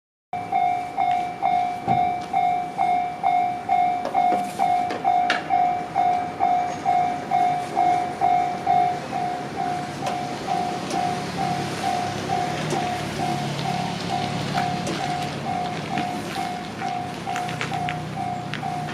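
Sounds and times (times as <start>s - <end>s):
level-crossing warning bell: 0.4s - 18.9s.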